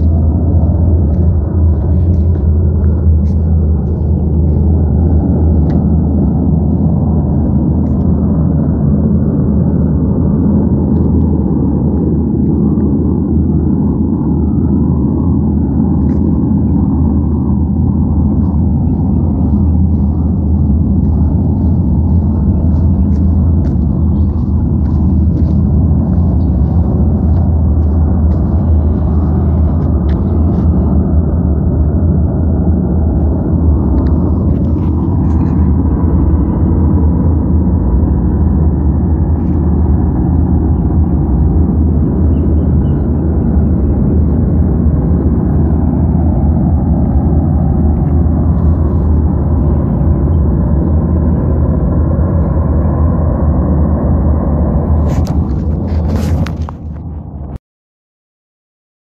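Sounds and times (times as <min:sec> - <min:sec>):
low rumbling drone: 0:00.0 - 0:57.6.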